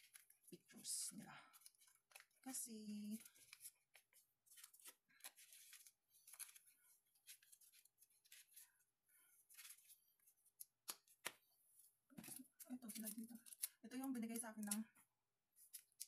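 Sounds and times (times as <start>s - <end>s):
paper and cards being handled: 0.0s - 16.0s.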